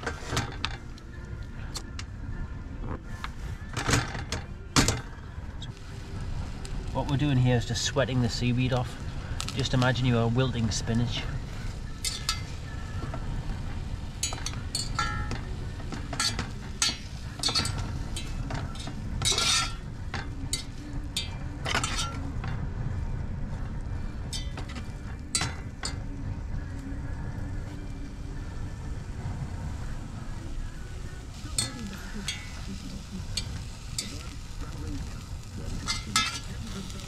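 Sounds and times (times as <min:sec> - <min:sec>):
low rumble: 0:00.0 - 0:37.0.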